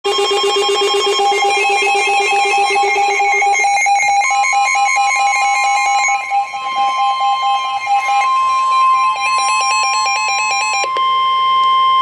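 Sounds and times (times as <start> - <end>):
pulsing electronic alert beeps: 0.1 - 10.8
steady electronic tone: 0.1 - 11.1.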